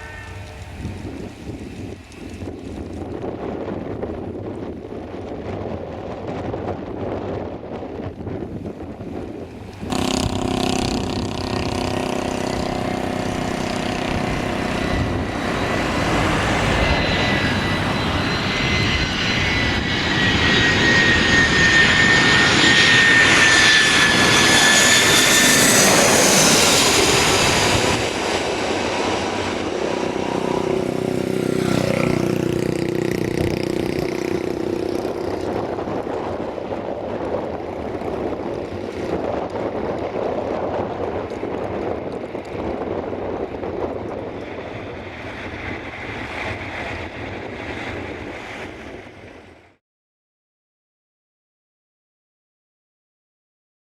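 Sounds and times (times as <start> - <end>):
airliner engine passing by: 0.0 - 49.8.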